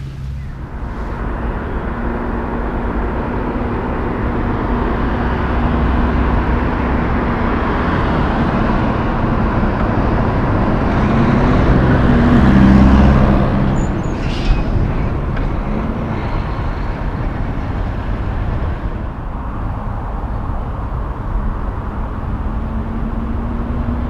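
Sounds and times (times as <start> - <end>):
city traffic: 0.0 - 24.0
diesel truck driving past: 0.0 - 24.0.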